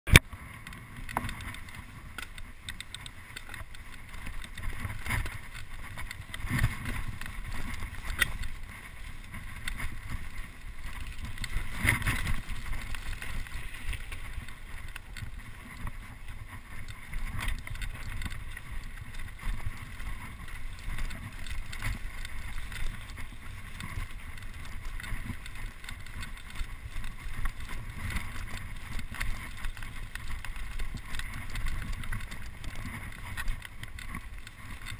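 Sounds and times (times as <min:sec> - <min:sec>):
bike knocking and rattling: 0:00.1 - 0:34.9
bike tyres rumbling on trail: 0:00.1 - 0:34.9.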